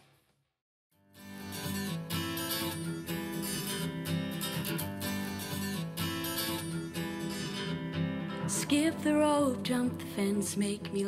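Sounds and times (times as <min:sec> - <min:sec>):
strummed acoustic guitar song: 0:01.0 - 0:11.0.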